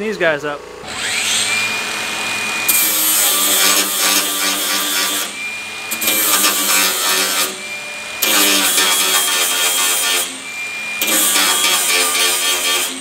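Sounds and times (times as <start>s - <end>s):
angle grinder grinding metal: 0.8s - 13.0s.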